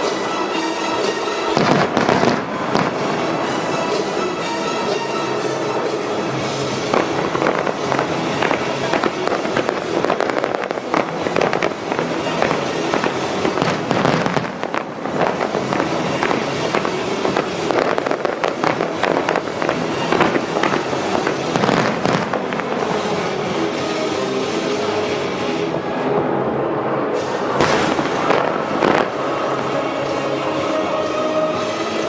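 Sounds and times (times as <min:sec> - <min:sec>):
fireworks bursting and crackling: 0:00.0 - 0:25.6, 0:27.1 - 0:30.7
music: 0:00.0 - 0:32.0.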